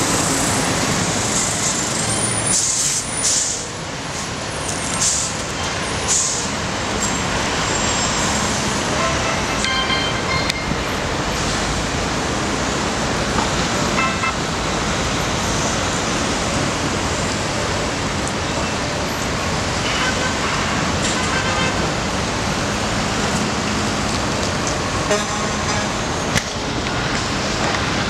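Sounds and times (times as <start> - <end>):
city traffic noise: 0.0 - 28.0.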